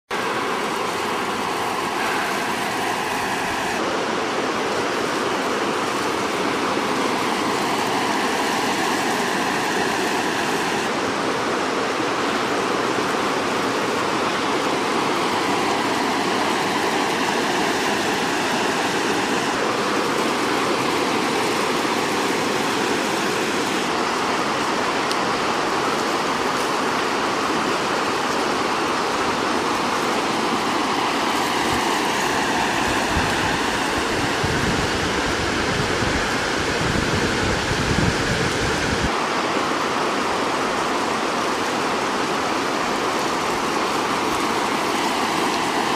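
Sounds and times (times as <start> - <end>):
water rushing over a weir: 0.1 - 45.9.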